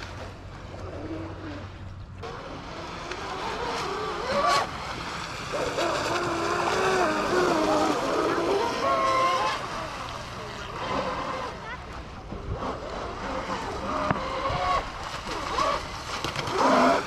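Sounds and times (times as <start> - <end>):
rc speedboat motor whine: 0.1 - 17.0.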